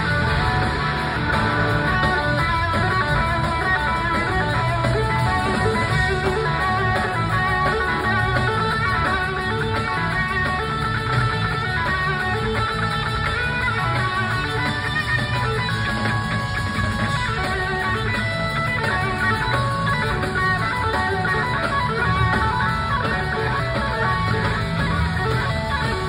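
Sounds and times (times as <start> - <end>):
electric guitar: 0.0 - 26.0
live blues-rock band playing: 0.0 - 26.0.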